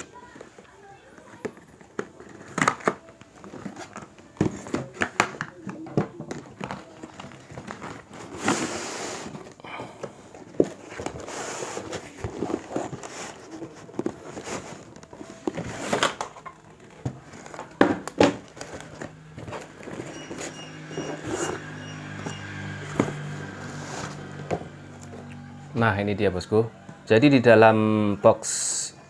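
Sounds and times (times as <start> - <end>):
cardboard scraping and rustling: 1.4 - 24.9.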